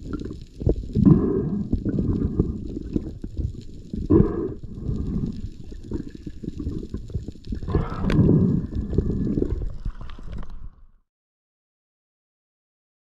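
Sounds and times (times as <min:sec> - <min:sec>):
underwater water rushing and gurgling: 0:00.0 - 0:11.0.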